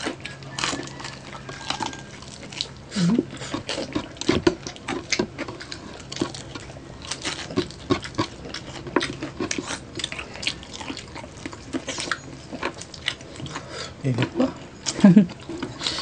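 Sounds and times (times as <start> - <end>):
crunchy chewing: 0.0 - 16.0.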